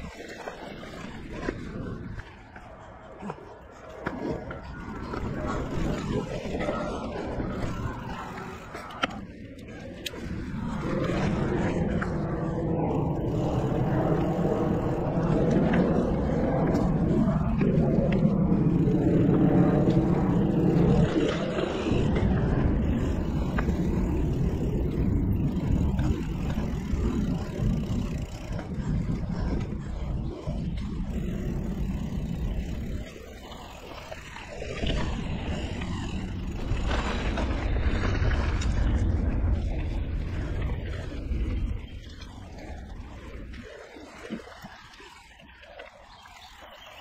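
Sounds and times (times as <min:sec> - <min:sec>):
bike tyres rolling over dirt: 0:00.0 - 0:47.0
wind buffeting microphone: 0:00.0 - 0:47.0.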